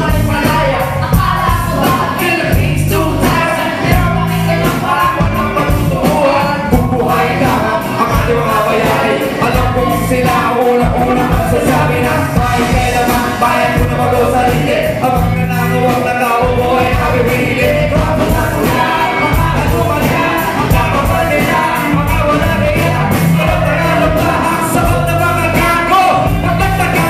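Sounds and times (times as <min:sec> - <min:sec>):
live pop band: 0:00.0 - 0:27.0
singers trading lines: 0:00.0 - 0:27.0.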